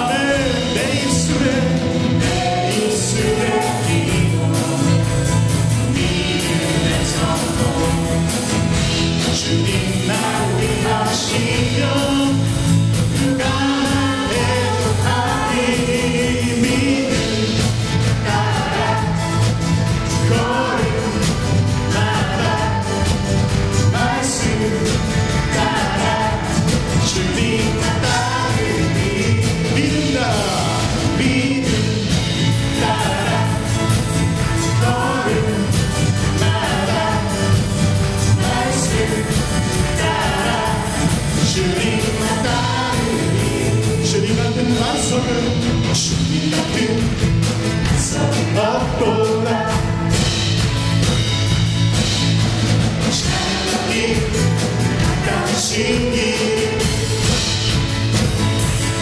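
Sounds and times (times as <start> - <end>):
voices singing together: 0.0 - 50.7, 52.0 - 59.0
band with bass and beat: 0.0 - 59.0.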